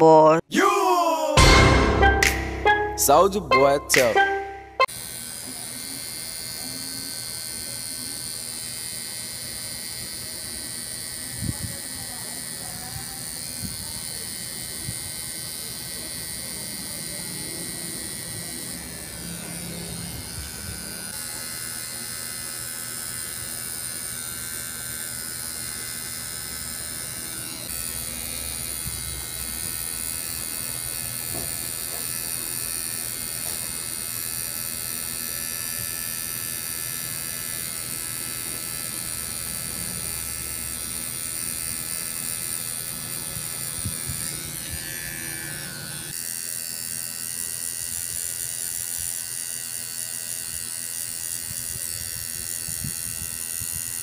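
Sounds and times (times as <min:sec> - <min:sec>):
tattoo machine buzzing: 0:04.8 - 0:54.0.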